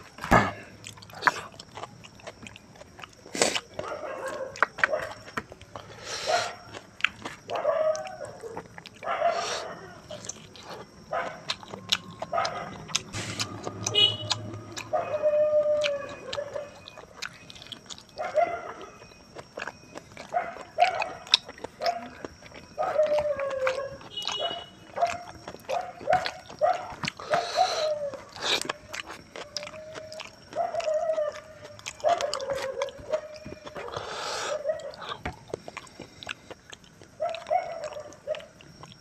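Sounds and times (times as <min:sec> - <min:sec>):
wet chewing and mouth clicks: 0:00.0 - 0:39.0.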